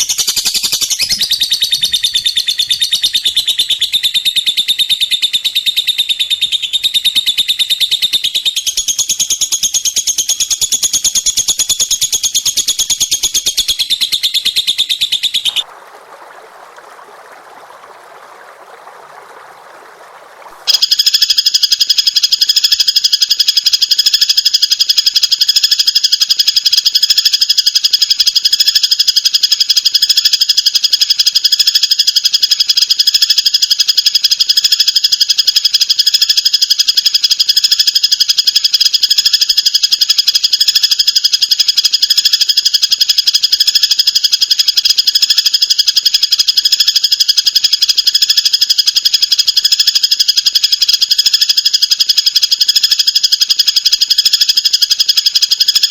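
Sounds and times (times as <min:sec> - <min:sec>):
songbird rapid trill: 0:00.0 - 0:55.9.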